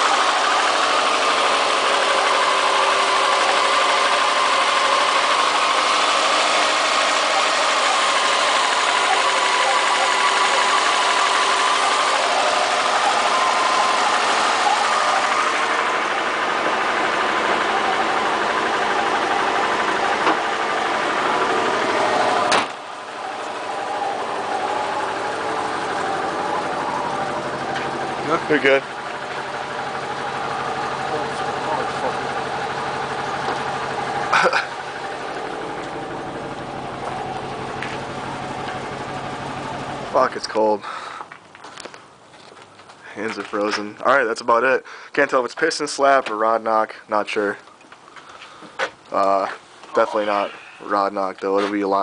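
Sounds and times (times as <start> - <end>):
car engine idling with knock: 0.0 - 44.0.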